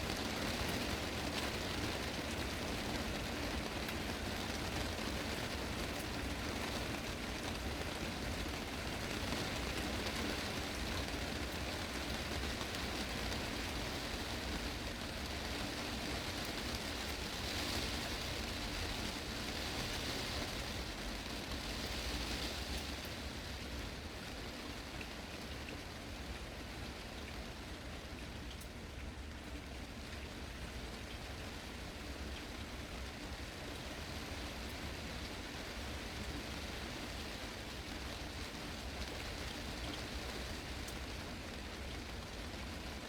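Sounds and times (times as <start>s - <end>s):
heavy rain on glass roof: 0.0s - 43.0s.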